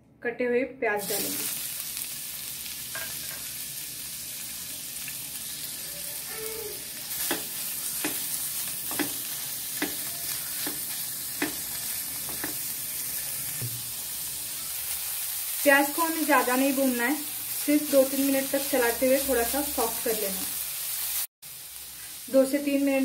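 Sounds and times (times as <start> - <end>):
onions sizzling in hot oil: 1.0 - 23.0.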